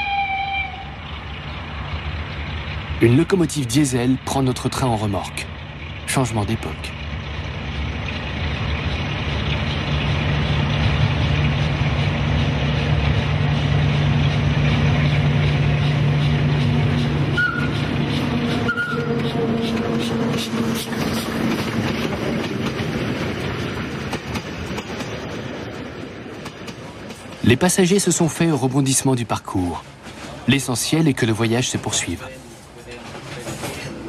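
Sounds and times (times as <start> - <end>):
diesel locomotive engine: 0.0 - 34.0
train wheels clattering on rails: 1.2 - 34.0.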